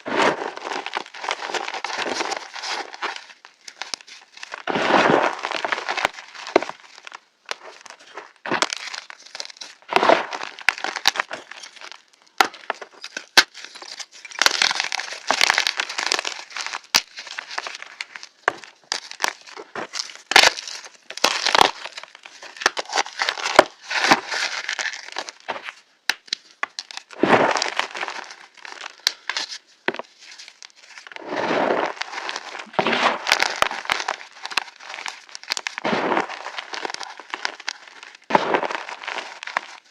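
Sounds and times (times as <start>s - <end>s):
chalk crunching and cracking: 0.0s - 39.9s.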